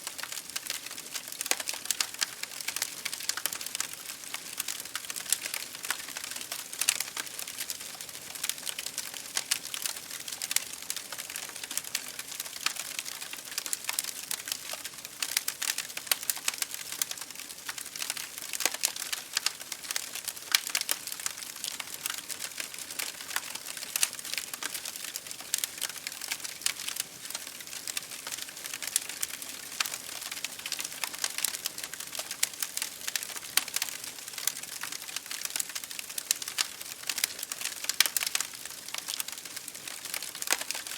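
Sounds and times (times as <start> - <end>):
rain pattering on a window: 0.0 - 40.9
wood fire crackling: 0.0 - 40.9.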